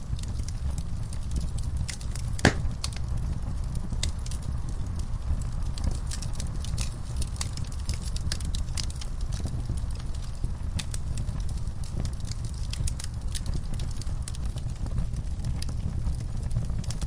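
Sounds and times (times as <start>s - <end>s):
low steady fire rumble: 0.0s - 17.0s
wood fire crackling and popping: 0.0s - 17.0s.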